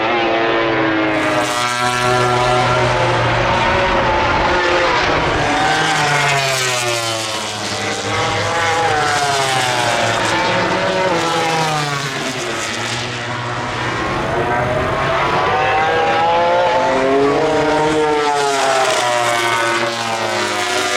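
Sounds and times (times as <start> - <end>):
racing motorcycle engines: 0.0 - 20.9.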